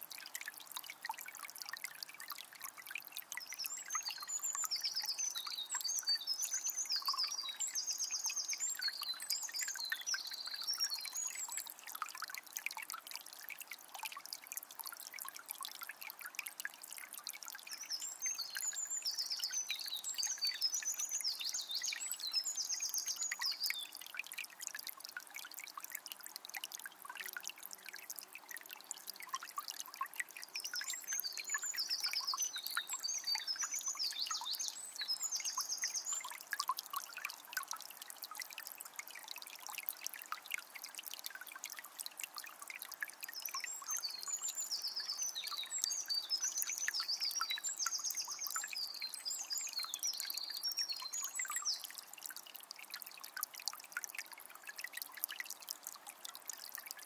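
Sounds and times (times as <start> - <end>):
river trickling and babbling: 0.0 - 57.0.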